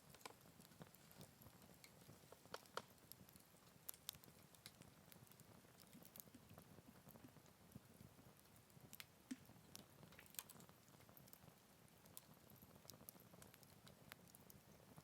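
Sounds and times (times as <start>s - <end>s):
campfire crackling and snapping: 0.0s - 15.0s.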